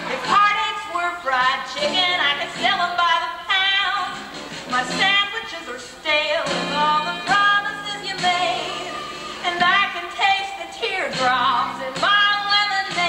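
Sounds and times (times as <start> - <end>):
instrumental backing music: 0.0 - 13.0
woman singing slow song: 0.1 - 13.0.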